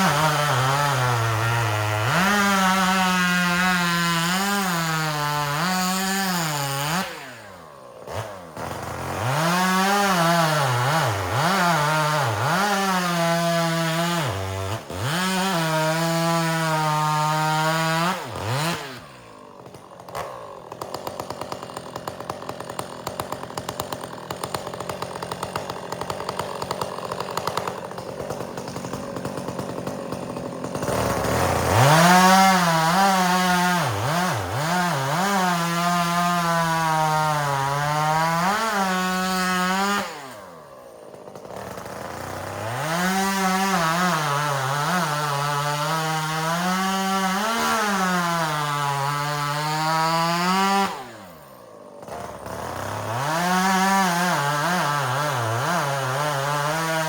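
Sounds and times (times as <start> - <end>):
chainsaw cutting wood: 0.0 - 57.0
chainsaw idling: 0.0 - 57.0.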